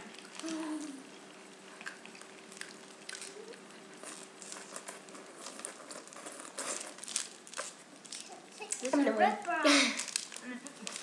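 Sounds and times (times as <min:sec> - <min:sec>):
wrappers crinkling: 0:00.0 - 0:11.0.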